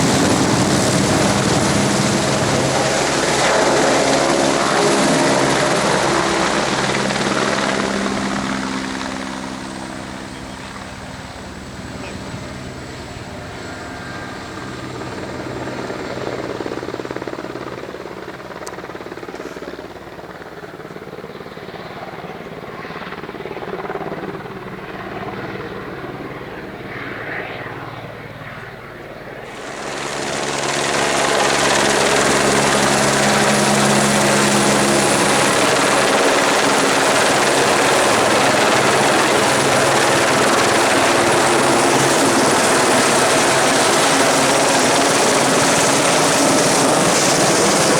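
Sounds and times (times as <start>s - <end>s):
helicopter engine drone: 0.0s - 47.9s.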